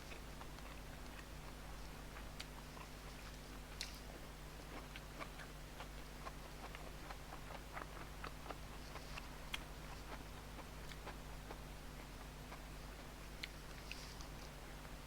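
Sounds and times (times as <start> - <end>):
chewing with wet mouth clicks: 0.0 - 14.6
low electrical hum: 0.0 - 15.0.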